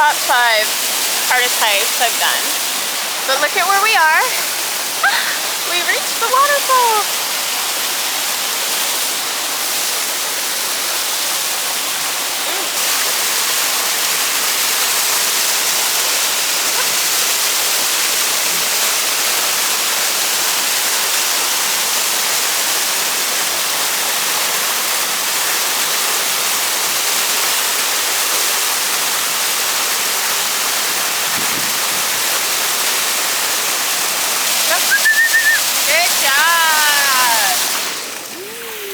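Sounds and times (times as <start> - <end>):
waterfall splashing: 0.0 - 38.9.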